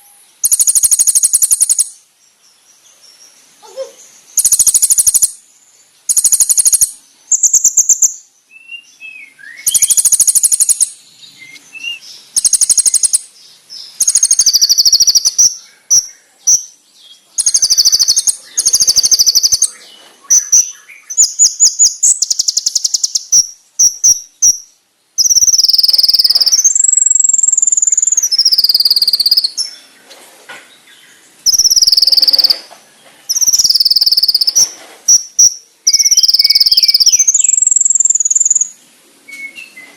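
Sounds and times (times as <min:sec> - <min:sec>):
bird singing fast trills: 0:00.0 - 0:30.0, 0:31.0 - 0:39.9.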